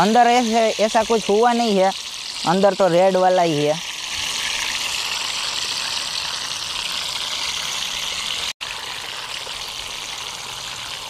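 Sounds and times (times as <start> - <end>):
watermelon sizzling in hot oil: 0.0 - 11.0.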